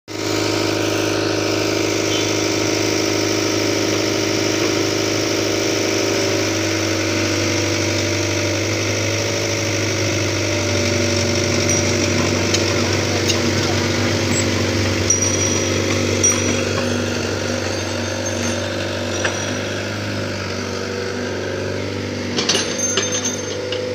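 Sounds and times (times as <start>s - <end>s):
diesel engine idling: 0.1s - 22.5s.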